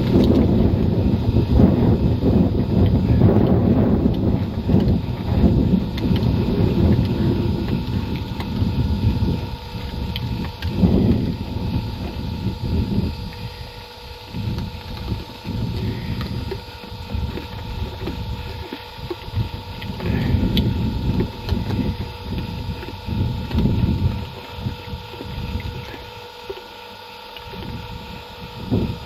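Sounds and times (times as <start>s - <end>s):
wind buffeting microphone: 0.0s - 26.4s, 27.4s - 29.0s
faint steady hum: 0.0s - 29.0s.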